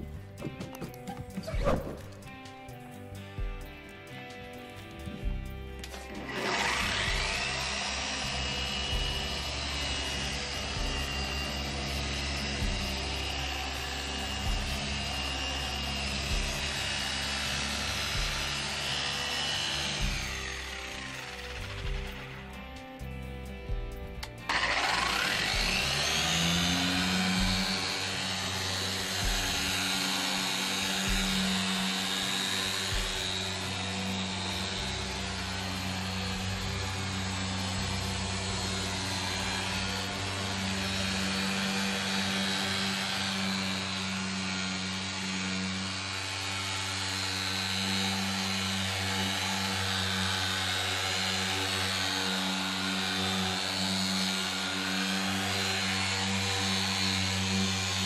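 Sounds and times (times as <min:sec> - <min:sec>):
electric car polisher running: 0:00.0 - 0:58.0.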